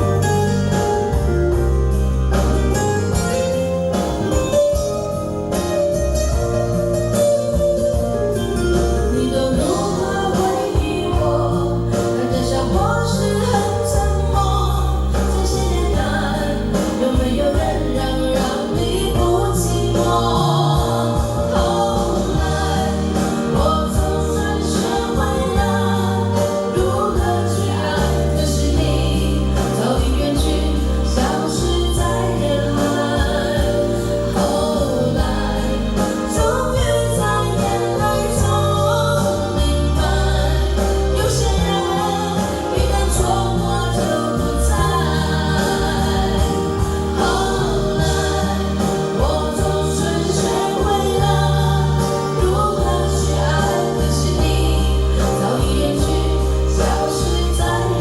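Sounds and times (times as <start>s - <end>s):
backing track with heavy bass: 0.0s - 58.0s
person singing: 8.7s - 58.0s.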